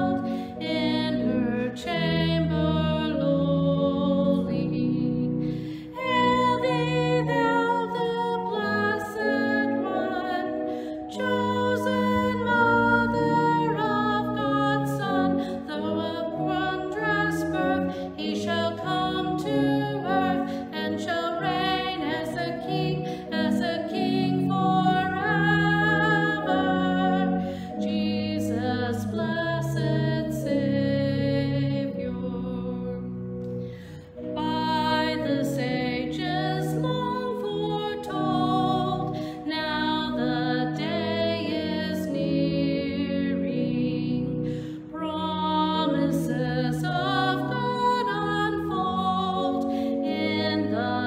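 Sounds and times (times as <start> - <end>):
woman singing with vibrato: 0.0 - 33.1, 33.8 - 51.0
organ chords: 0.0 - 51.0.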